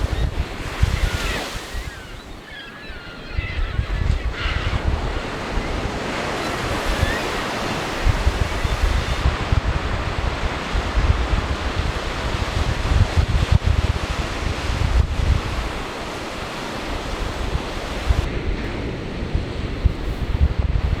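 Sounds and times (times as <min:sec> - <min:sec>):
surf washing onto shore: 0:00.0 - 0:02.6, 0:04.3 - 0:21.0
wind buffeting microphone: 0:00.0 - 0:21.0.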